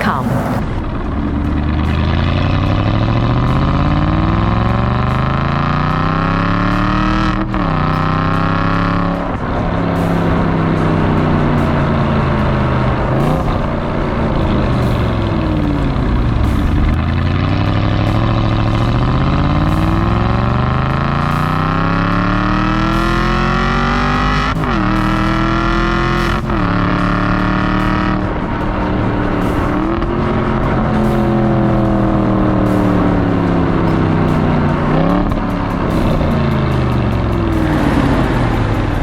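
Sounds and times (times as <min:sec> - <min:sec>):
car engine accelerating hard: 0:00.0 - 0:39.0.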